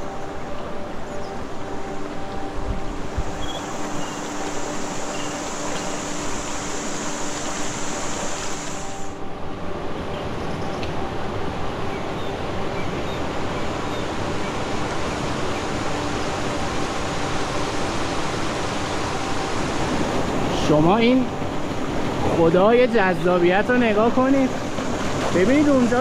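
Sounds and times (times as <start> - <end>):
high steady hiss: 0.0 - 26.0.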